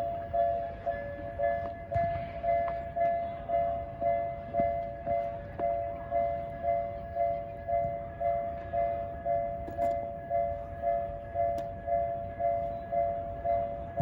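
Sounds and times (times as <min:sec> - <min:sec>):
two-tone level-crossing alarm: 0:00.0 - 0:14.0.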